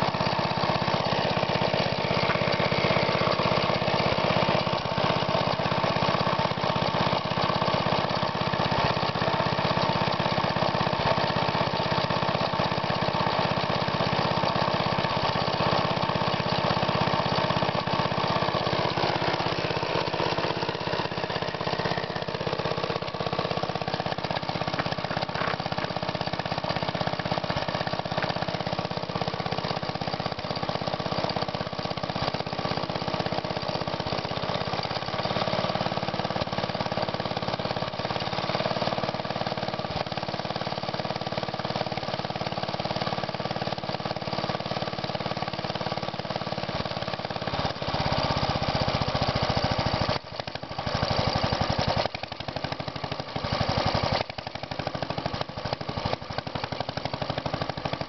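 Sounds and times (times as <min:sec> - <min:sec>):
single-cylinder engine running: 0:00.0 - 0:58.0.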